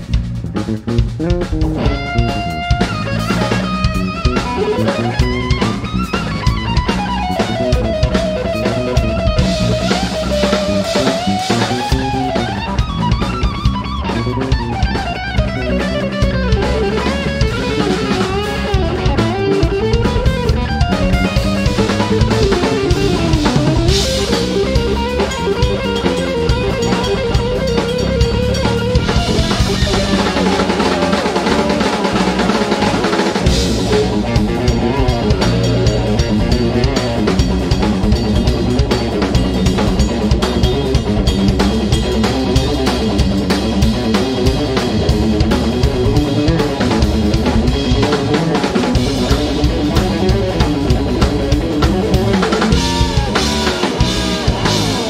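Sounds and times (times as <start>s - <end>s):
drumming: 0.0s - 55.0s
electric bass: 0.0s - 55.0s
electric guitar lead line: 0.0s - 55.0s.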